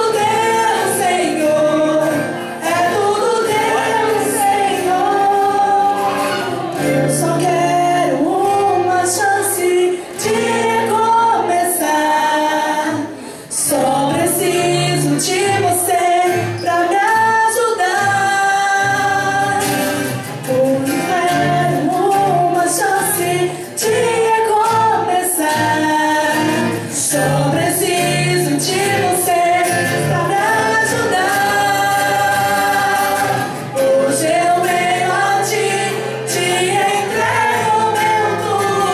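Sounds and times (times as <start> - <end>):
voices singing gospel song: 0.0 - 38.9.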